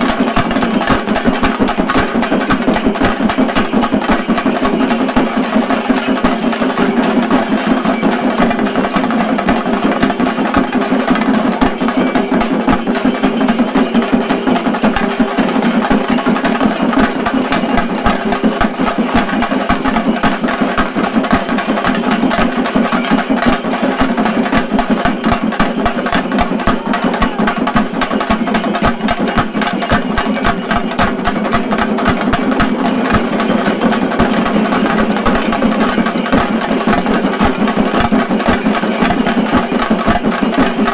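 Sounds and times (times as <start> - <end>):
drums beaten in a fast roll: 0.0 - 40.9.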